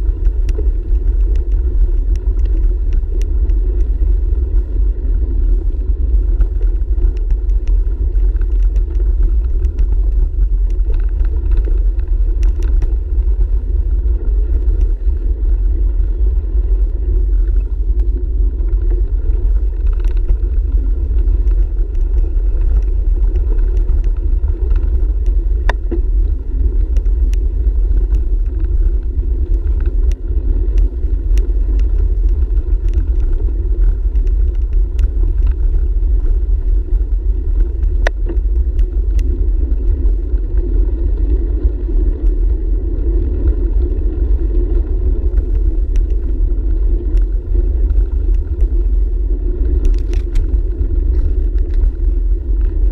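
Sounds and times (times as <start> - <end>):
bike clicks and rattles: 0.0 - 52.9
tyres on dirt path: 0.0 - 52.9
wind buffeting: 0.0 - 52.9.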